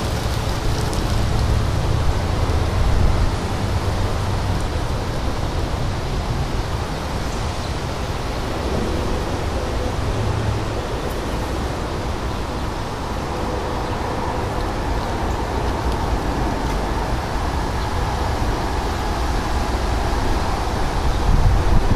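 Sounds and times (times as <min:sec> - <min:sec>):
gusty wind buffeting microphone: 0:00.0 - 0:21.9
rain: 0:00.0 - 0:21.9.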